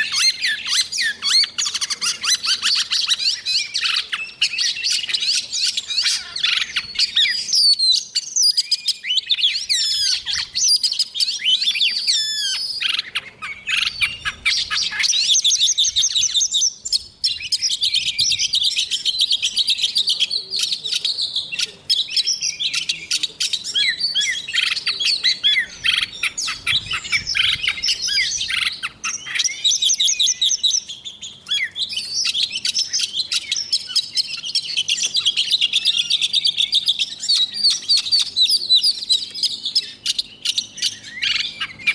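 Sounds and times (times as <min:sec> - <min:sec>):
bird singing whistles and trills: 0:00.0 - 0:41.9.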